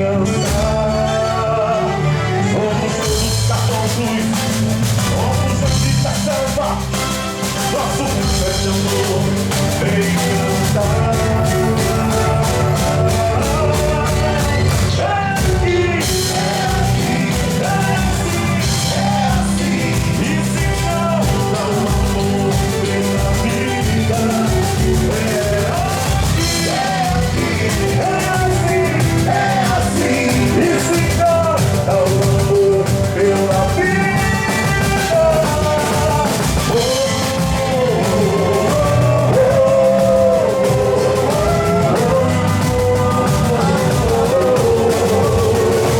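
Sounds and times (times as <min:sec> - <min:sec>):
person singing melody: 0:00.0 - 0:45.9
band drum beat: 0:03.0 - 0:45.9.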